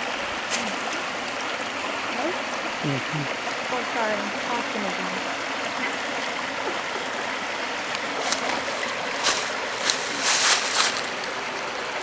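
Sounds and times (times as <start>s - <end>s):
waterfall splashing: 0.0s - 12.0s.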